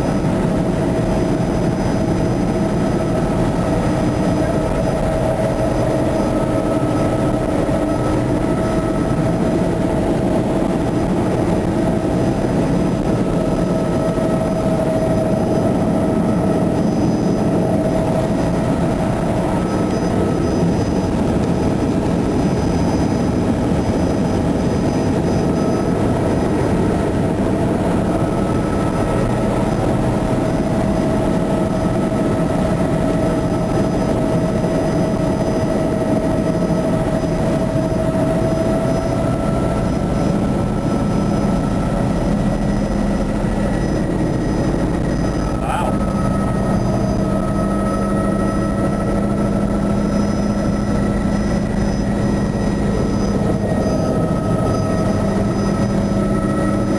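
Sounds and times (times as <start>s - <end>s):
helicopter engine and rotor drone: 0.0s - 56.9s
steady whine: 0.0s - 56.9s.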